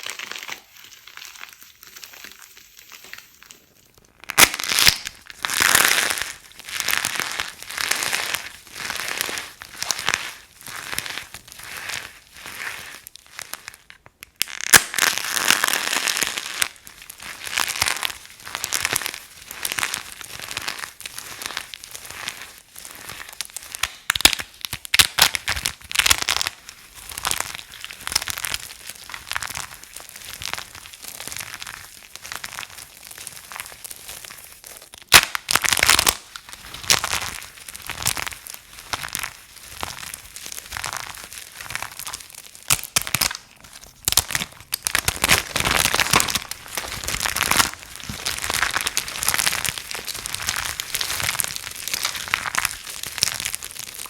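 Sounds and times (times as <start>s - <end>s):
soap crunching and crumbling: 0.0s - 54.0s.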